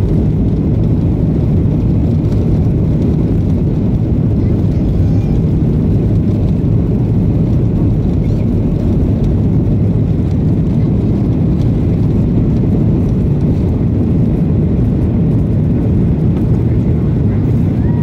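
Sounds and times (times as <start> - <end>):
jet engines rumbling in cabin: 0.0 - 18.0
wheels rolling on runway: 0.0 - 18.0.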